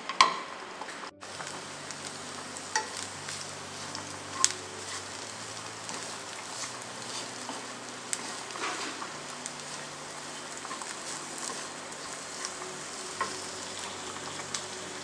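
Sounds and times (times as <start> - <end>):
vegetables sizzling in a frying pan: 0.0 - 15.0.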